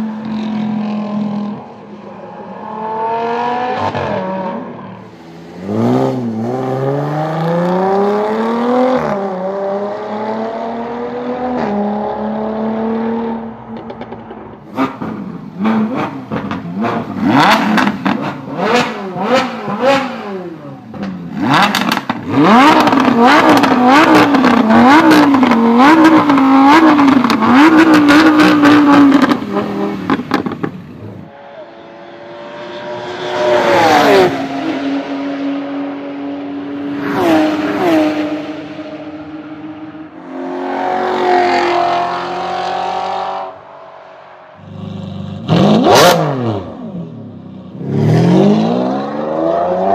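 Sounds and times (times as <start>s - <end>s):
cars driving past: 0.0s - 49.9s
sports car engine revving: 5.5s - 43.6s, 44.6s - 49.9s.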